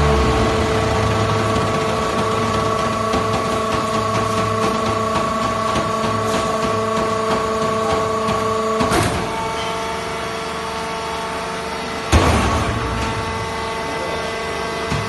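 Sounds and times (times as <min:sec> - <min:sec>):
hydraulic power unit whine: 0:00.0 - 0:15.0.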